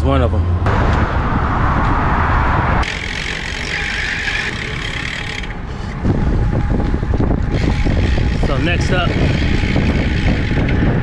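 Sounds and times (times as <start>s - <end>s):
bicycle road noise: 0.0s - 11.0s
low rumble: 0.4s - 3.6s, 5.4s - 11.0s
wind buffeting microphone: 0.6s - 11.0s.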